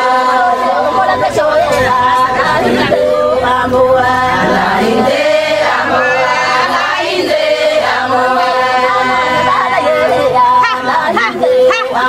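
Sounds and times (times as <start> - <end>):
voices singing in chorus: 0.0 - 12.0.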